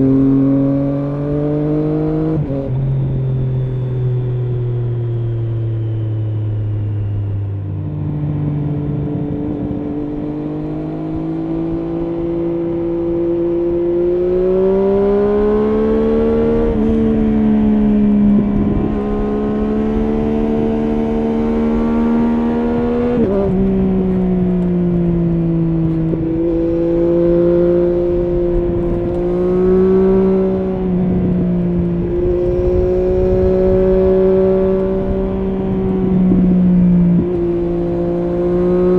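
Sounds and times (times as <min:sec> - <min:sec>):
motorcycle engine revving: 0:00.0 - 0:03.9, 0:04.8 - 0:38.9
wind and road noise: 0:00.0 - 0:38.9.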